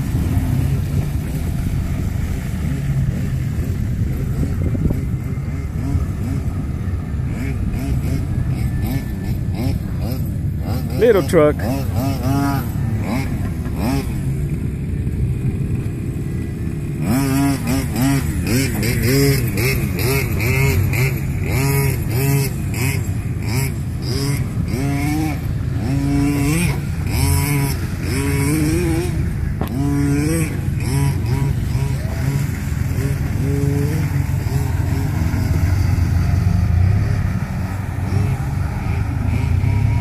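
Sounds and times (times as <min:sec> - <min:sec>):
engine revving: 0:00.0 - 0:40.0
vehicle churning through mud: 0:00.0 - 0:40.0.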